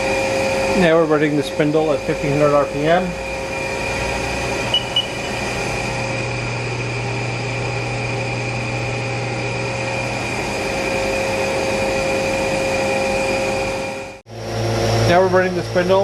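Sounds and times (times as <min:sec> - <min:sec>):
lathe spindle humming and whining: 0:00.0 - 0:16.0.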